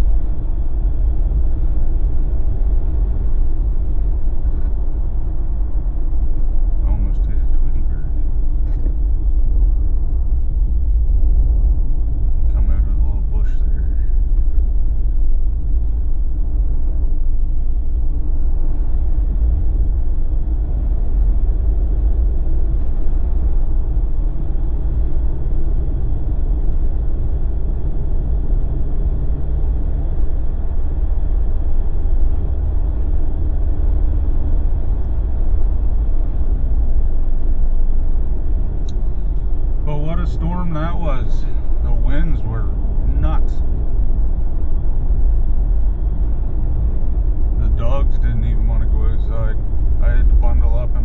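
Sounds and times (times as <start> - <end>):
faint engine hum: 0.0 - 51.0
vehicle engine and tyres rumbling: 0.0 - 51.0.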